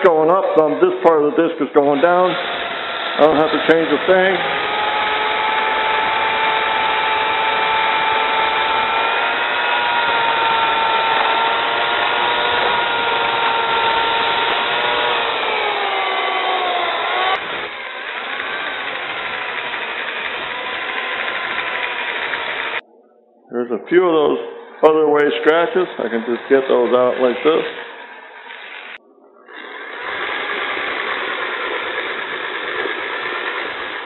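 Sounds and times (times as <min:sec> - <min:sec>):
electric drill motor whine: 0:02.2 - 0:22.8, 0:25.9 - 0:34.0.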